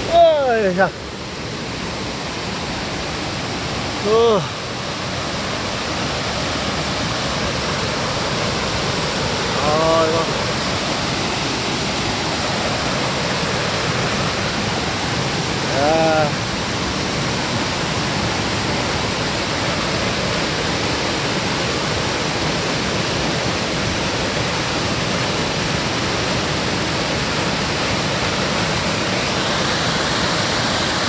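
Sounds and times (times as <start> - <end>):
waterfall pouring over rocks: 0.0 - 31.0.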